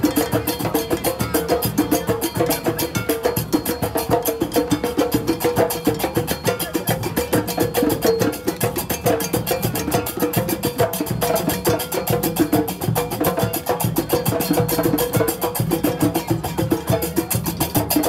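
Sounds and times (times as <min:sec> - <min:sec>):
hand drums playing: 0:00.0 - 0:18.0.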